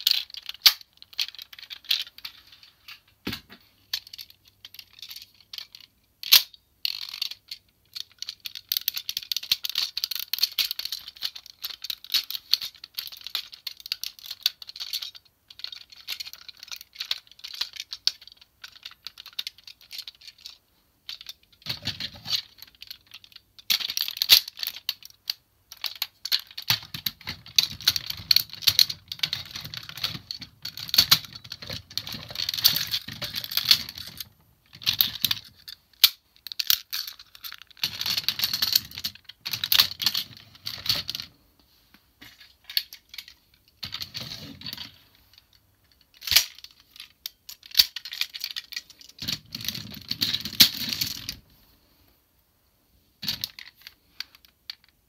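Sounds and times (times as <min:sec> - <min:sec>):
plastic toy parts clicking: 0:00.0 - 0:03.0, 0:03.9 - 0:41.3, 0:42.4 - 0:51.4, 0:53.2 - 0:55.0.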